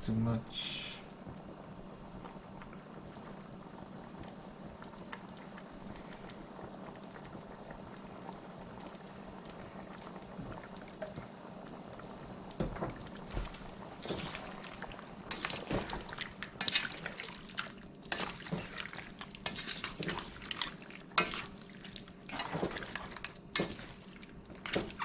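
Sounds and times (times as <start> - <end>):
pot of stew bubbling: 0.2 - 25.0.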